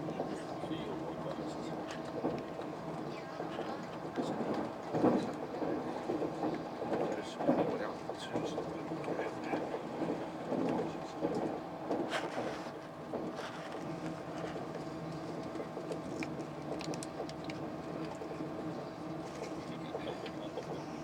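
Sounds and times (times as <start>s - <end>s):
faint passengers' voices: 0.0s - 21.0s
train running hum inside carriage: 0.0s - 21.0s.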